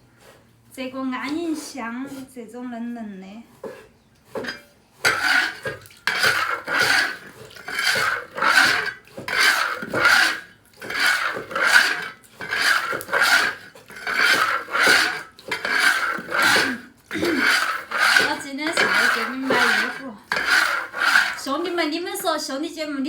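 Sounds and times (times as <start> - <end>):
rhythmic rasping scrapes: 3.5 - 23.0.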